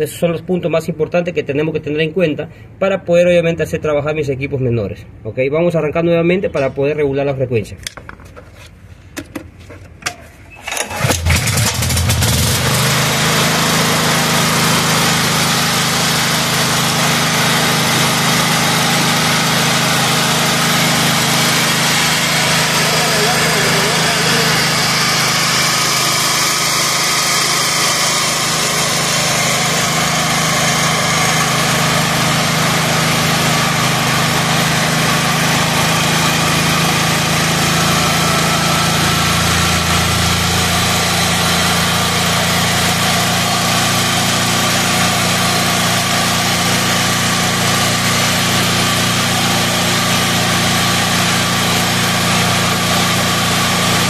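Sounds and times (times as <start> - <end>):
generator engine running: 9.2 - 54.0.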